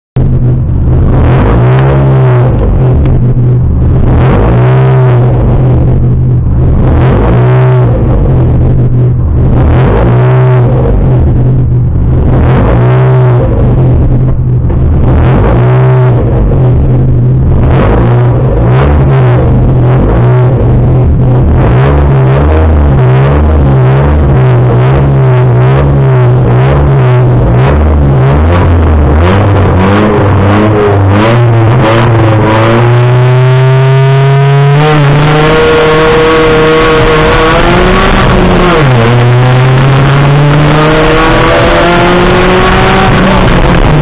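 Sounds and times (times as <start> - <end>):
race car engine running loud: 0.2 - 44.0
steady low drone: 0.2 - 44.0.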